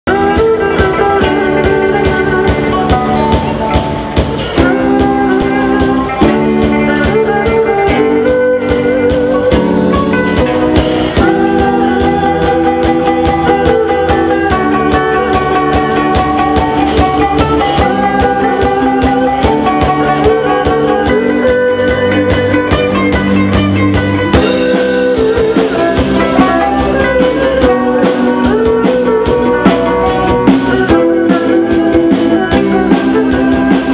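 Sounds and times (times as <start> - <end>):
plucked lutes: 0.0 - 33.9
bowed erhu: 0.1 - 33.9.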